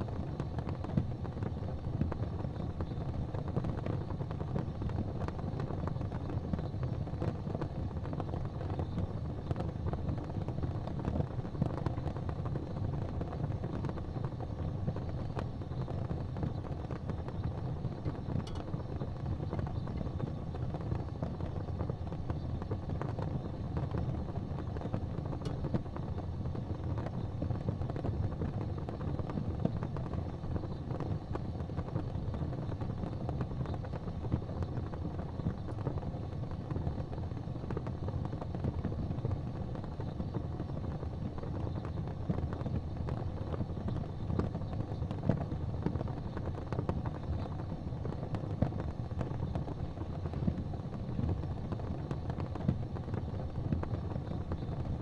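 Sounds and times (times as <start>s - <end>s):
wood fire burning: 0.0s - 55.0s.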